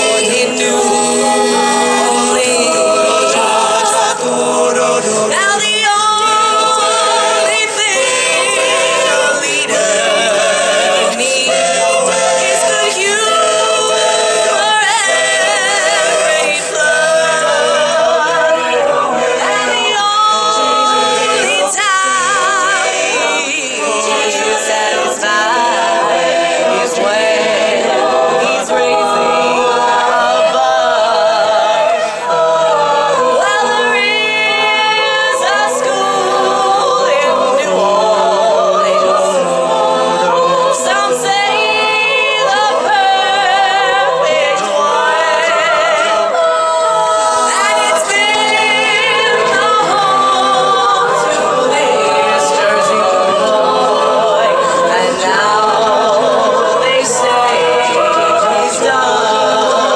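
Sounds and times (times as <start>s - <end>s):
vocal group singing in harmony: 0.0s - 59.9s.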